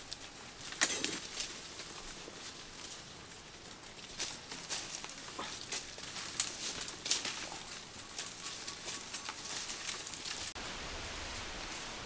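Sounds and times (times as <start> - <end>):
footsteps through dry leaves: 0.0 - 12.0
outdoor background hiss: 0.0 - 12.0.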